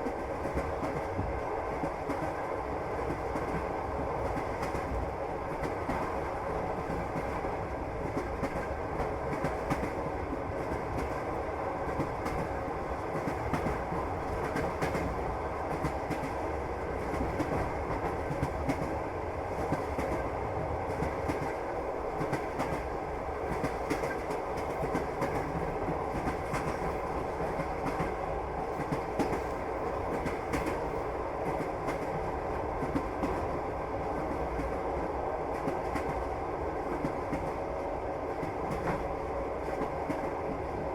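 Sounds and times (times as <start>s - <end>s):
train rumble: 0.0s - 40.9s.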